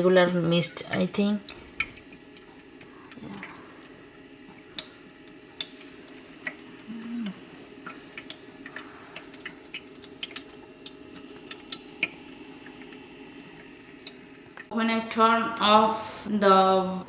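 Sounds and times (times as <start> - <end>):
water ticks and drips: 0.0 - 15.3
humidifier humming: 0.0 - 17.0.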